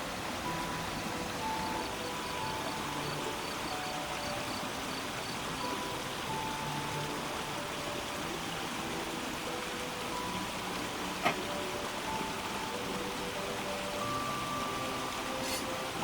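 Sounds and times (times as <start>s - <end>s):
soft music of held notes: 0.0s - 16.0s
steady rushing hiss: 0.0s - 16.0s.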